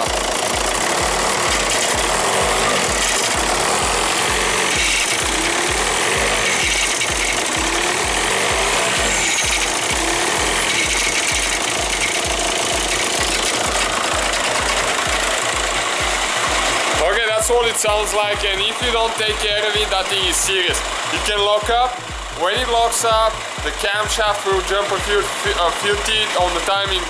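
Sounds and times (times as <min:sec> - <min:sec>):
diesel engine idling: 0:00.0 - 0:27.0
rhythmic knocking rattle: 0:00.0 - 0:27.0.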